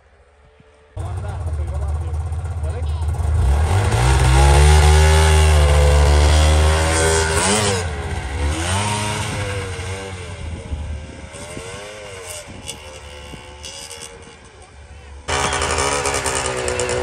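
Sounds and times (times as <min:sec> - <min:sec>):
snowmobile engine revving: 0:01.0 - 0:17.0.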